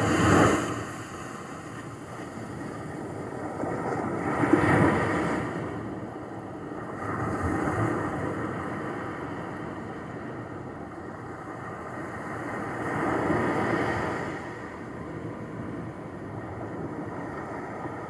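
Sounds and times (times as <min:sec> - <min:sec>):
small waves washing onto shore: 0:00.0 - 0:18.0.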